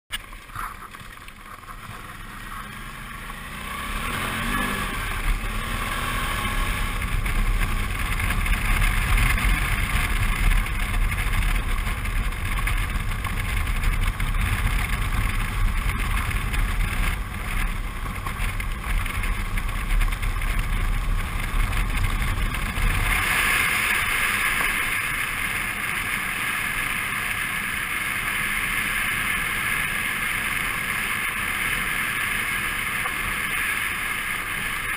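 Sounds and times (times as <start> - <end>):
motorcycle engine running: 0.1 - 34.9
rushing noise: 0.2 - 34.9.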